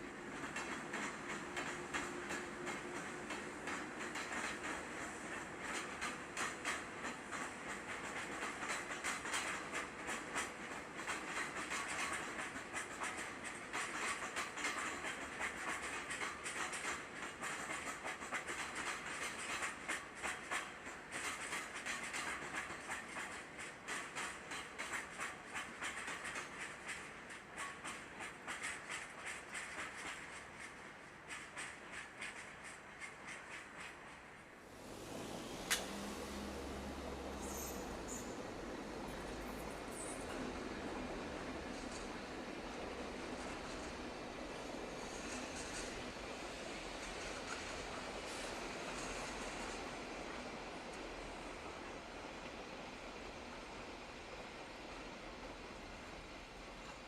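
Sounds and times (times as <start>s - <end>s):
clacks over rail joints: 0.0s - 34.6s, 37.4s - 51.8s
train wheels rushing on rails: 0.0s - 57.0s.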